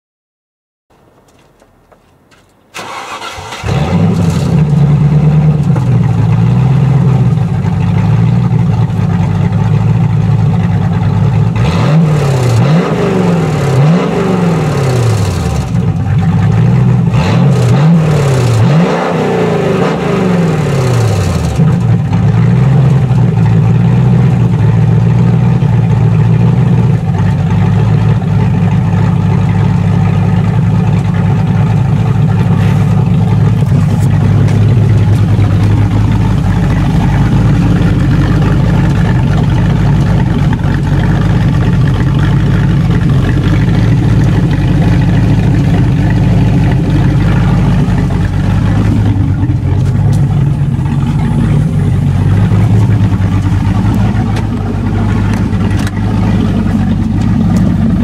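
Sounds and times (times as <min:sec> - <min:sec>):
car engine idling and revving: 0:01.0 - 0:58.0.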